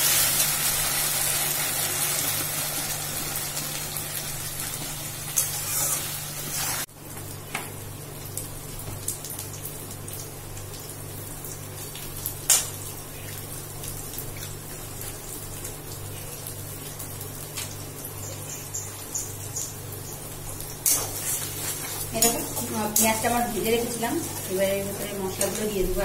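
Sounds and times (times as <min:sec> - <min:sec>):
hot oil sizzling: 0:00.0 - 0:26.0.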